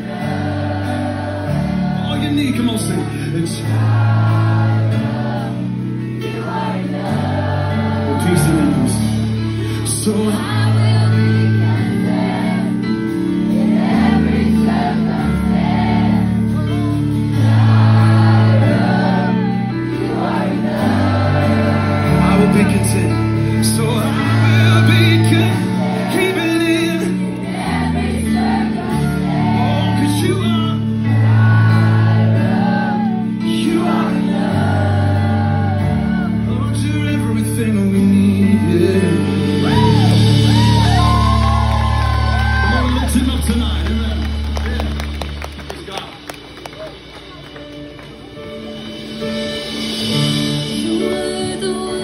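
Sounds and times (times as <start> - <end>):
loud music with singing: 0.0 - 42.8, 48.4 - 52.0
deep bass line: 0.0 - 47.9.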